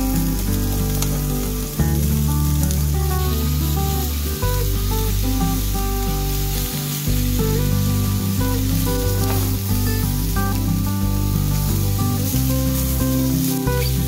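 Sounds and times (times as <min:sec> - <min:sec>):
background music: 0:00.0 - 0:14.0
food sizzling in a pan: 0:00.0 - 0:14.0.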